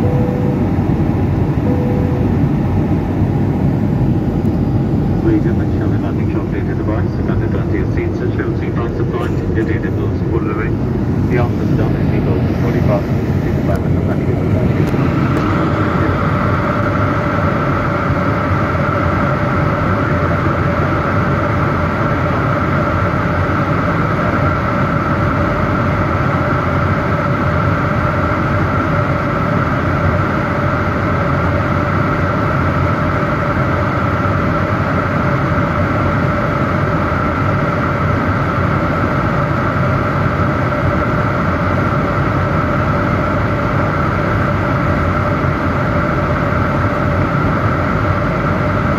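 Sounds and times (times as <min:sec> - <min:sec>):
airliner cabin rush and engine hum: 0:00.0 - 0:48.9.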